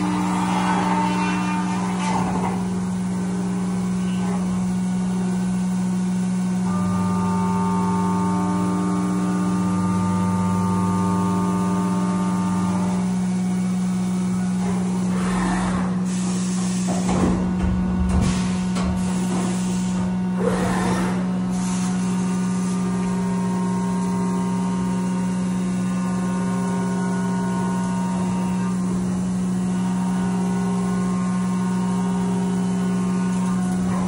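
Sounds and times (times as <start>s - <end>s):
end mill cutting whine: 0.0s - 34.0s
milling machine hum: 0.0s - 34.0s.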